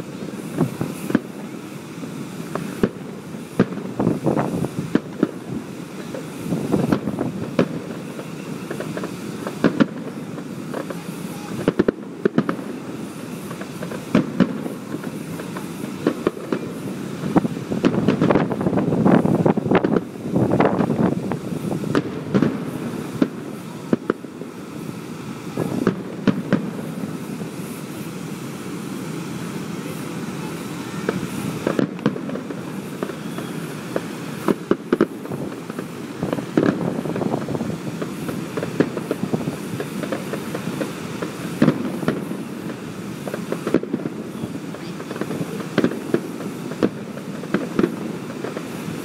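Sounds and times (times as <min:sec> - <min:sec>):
firework shells bursting: 0:00.0 - 0:49.0
rumbling crackle of fireworks: 0:00.0 - 0:49.0.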